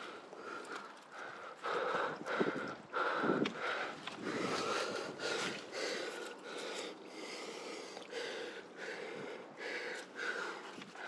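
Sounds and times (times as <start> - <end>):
person breathing hard and fast: 0.0 - 11.0.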